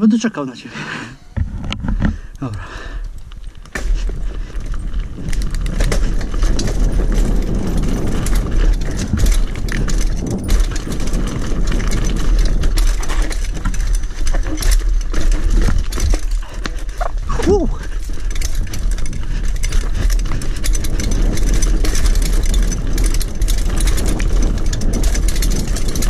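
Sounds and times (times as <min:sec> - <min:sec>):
wind and tyres on dirt rumble: 0:01.0 - 0:26.0
bike chain and frame rattling: 0:01.5 - 0:26.0.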